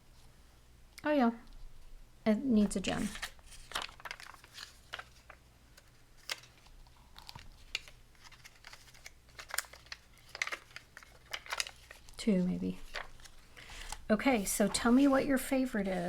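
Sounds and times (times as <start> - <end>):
paper and craft pieces handled: 2.6 - 16.0.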